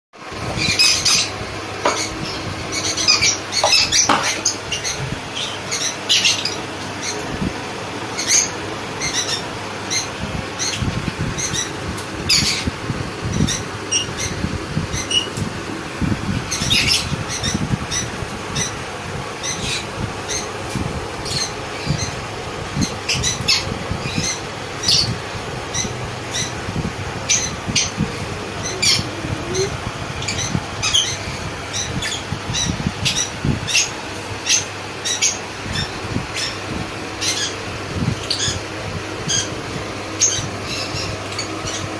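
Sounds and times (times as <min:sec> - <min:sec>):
parrot chicks squawking: 0:00.3 - 0:41.9.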